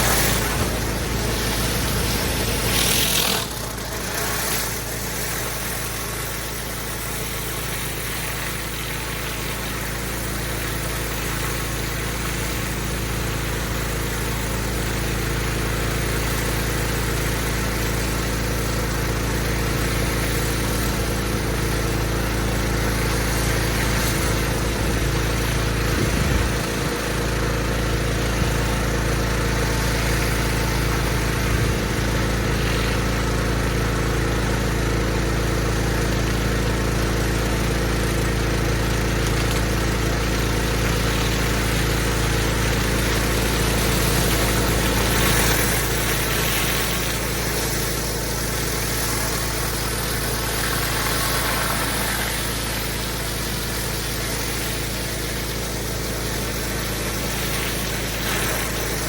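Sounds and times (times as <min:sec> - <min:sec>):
pressure washer engine running: 0:00.0 - 0:59.0
water jet hissing on paving: 0:00.0 - 0:59.0.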